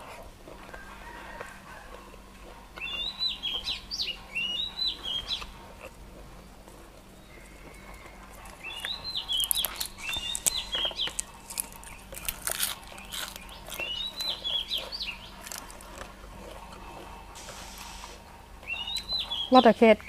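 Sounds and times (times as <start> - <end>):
songbird chirping: 0.6 - 20.0.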